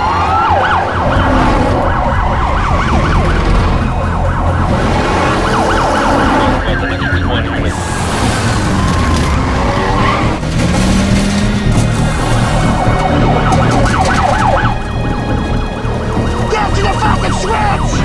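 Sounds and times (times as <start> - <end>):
car engines rumbling: 0.0 - 18.0
police sirens sweeping: 0.0 - 18.0.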